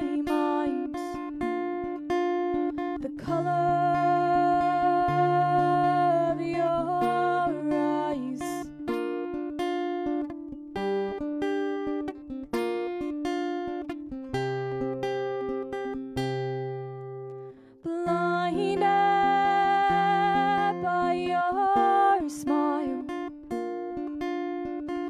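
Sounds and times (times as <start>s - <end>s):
acoustic guitar picking: 0.0s - 25.0s.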